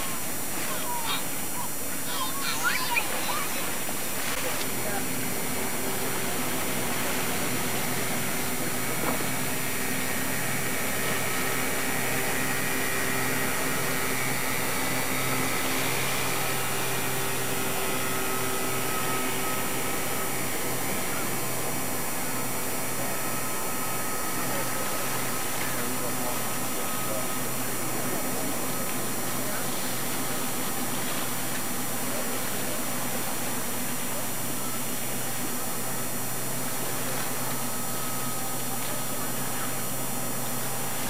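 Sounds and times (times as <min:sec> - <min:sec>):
boat engine drone: 0:00.0 - 0:41.0.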